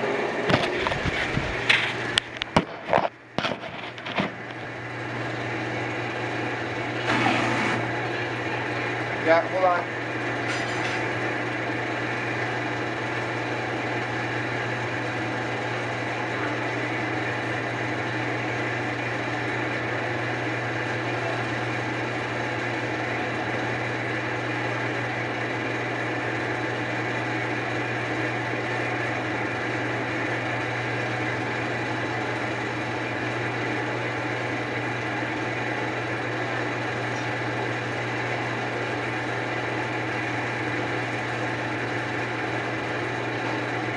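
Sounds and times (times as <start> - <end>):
electric machine humming: 0.0 - 43.9.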